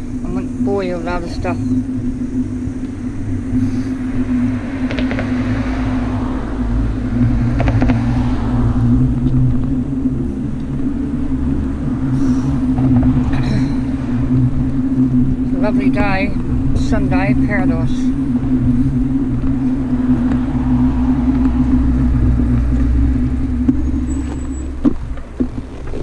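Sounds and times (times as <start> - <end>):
bicycle tyre noise: 0.0 - 26.0
wind on camera: 0.0 - 26.0.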